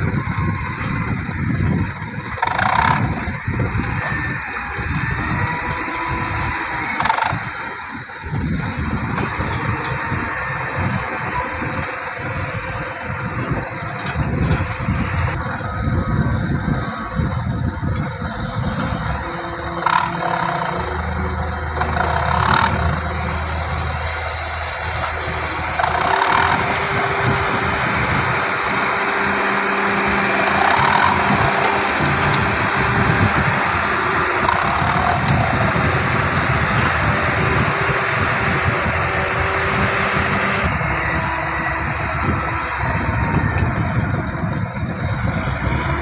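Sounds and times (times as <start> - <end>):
dump truck engine running: 0.0 - 46.0.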